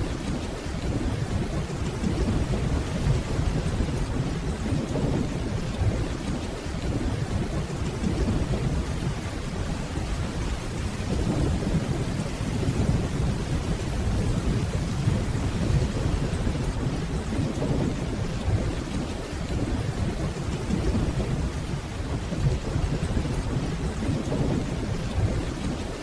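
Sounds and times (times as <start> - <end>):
steady rainfall: 0.0 - 26.0
distant thunder rumbling: 0.2 - 25.8.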